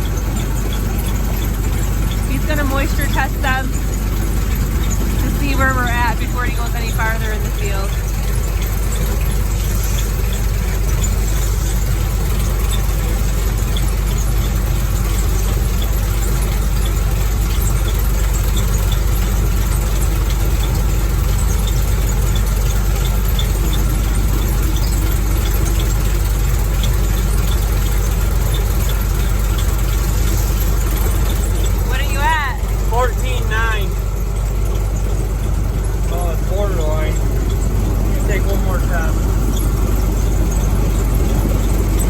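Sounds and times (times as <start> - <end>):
combine harvester drone: 0.0 - 42.0.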